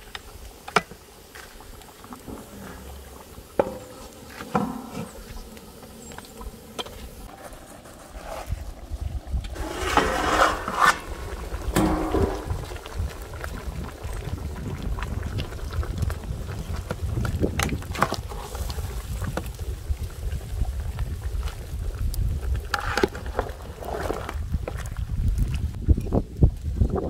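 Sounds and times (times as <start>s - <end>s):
rustle: 0.0s - 26.9s
wind rumbling on microphone: 1.6s - 27.0s.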